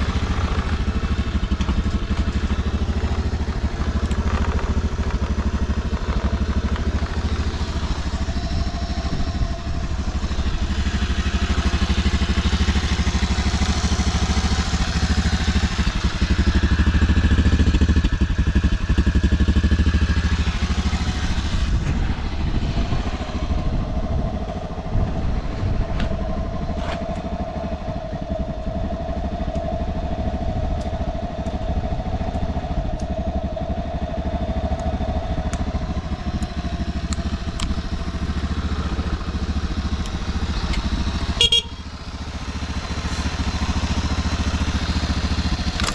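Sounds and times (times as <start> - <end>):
small engine idling: 0.0 - 45.9.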